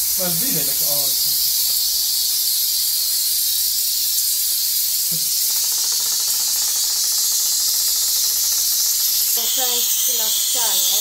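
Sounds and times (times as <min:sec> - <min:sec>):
steam cleaner hissing: 0:00.0 - 0:11.0.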